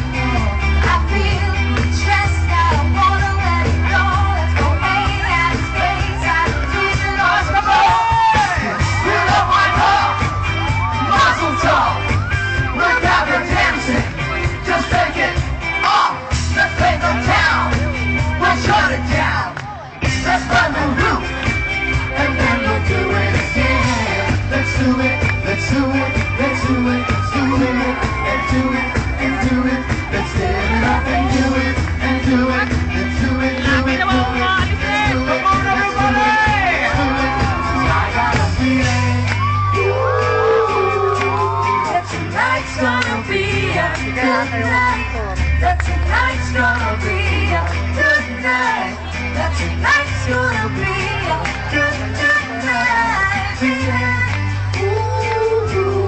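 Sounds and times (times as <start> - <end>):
live pop band with heavy bass: 0.0 - 56.0
person singing: 0.0 - 56.0.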